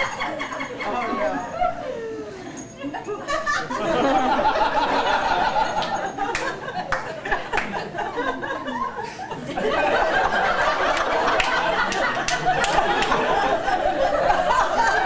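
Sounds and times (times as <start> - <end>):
audience laughing: 0.0 - 2.0, 2.8 - 15.0.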